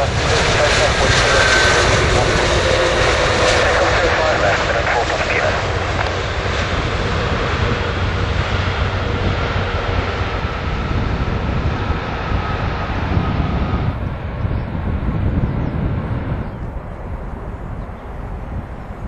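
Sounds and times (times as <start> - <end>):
jet engines roaring with whine: 0.0 - 19.0.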